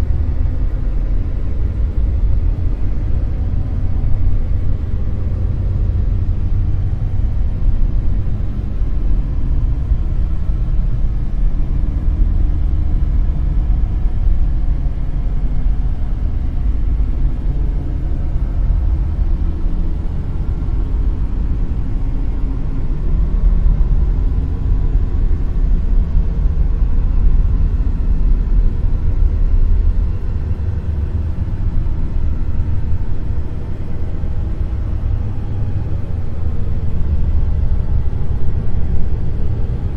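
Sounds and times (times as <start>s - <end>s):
deep dark noise: 0.0s - 39.9s.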